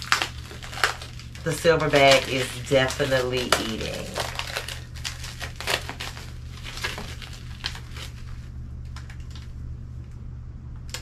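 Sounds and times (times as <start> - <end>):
plastic wrapping crinkling: 0.0 - 9.6.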